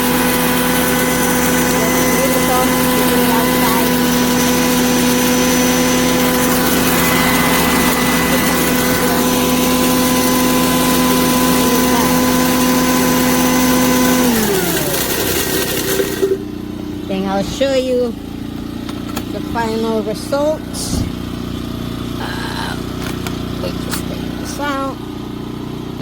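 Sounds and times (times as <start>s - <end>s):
grain mill motor humming: 0.0s - 26.0s.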